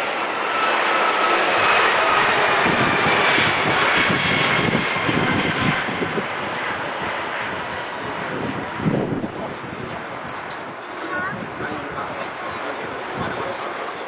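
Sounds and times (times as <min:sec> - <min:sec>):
jet roar: 0:00.0 - 0:14.0.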